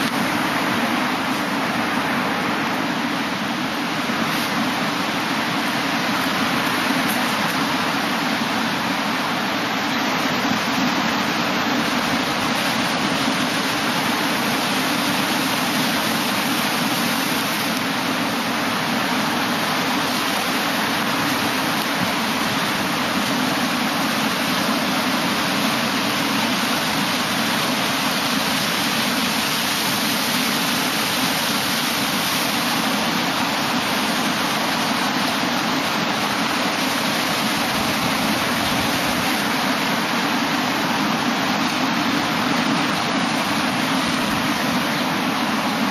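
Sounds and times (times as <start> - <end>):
ocean surf washing over rocks: 0.0 - 45.9.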